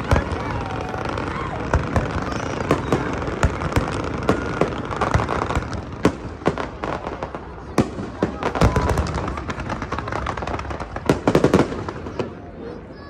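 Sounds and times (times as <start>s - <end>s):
fireworks bangs and pops: 0.0s - 12.6s.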